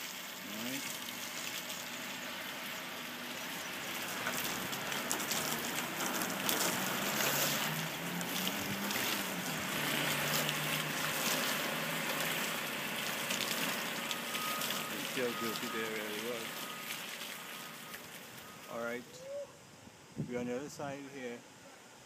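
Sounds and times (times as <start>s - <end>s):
water spray splashing on siding: 0.0s - 18.8s.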